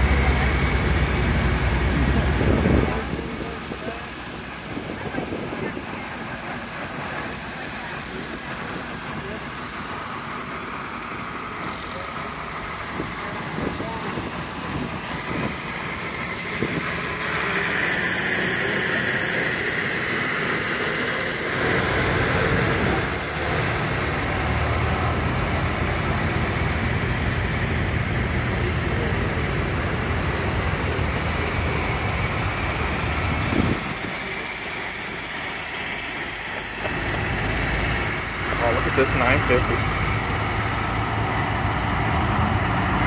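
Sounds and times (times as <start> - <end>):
tractor engines driving past: 0.0 - 43.0.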